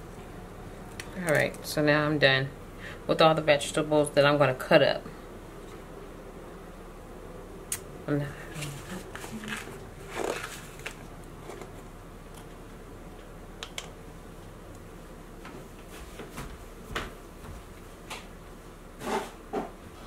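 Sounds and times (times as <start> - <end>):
low room hiss: 0.0 - 20.0.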